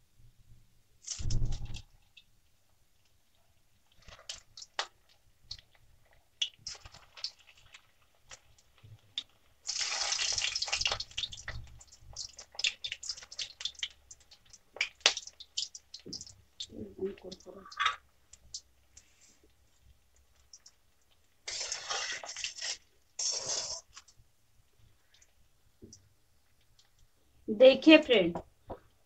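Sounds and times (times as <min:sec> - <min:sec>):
dough balls deep-frying in oil: 0:00.0 - 0:27.8.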